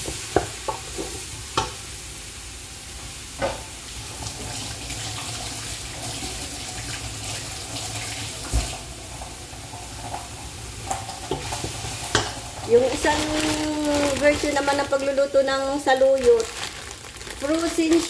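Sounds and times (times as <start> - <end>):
leaves sizzling in a pot: 0.0 - 18.0.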